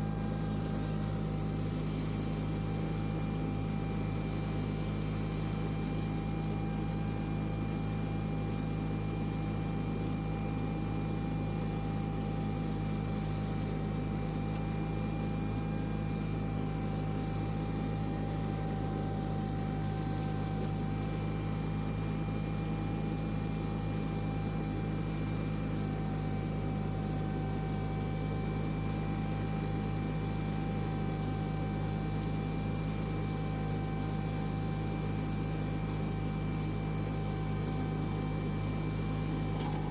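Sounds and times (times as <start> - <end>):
garden tractor engine running: 0.0 - 10.0, 10.6 - 39.9.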